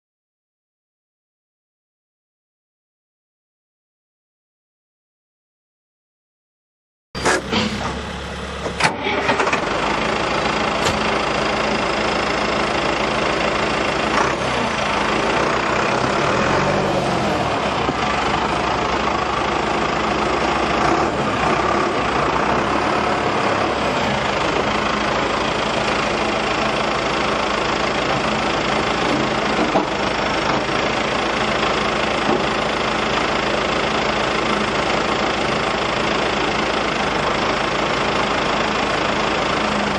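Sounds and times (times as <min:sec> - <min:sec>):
tractor diesel engine running: 0:07.2 - 0:39.9.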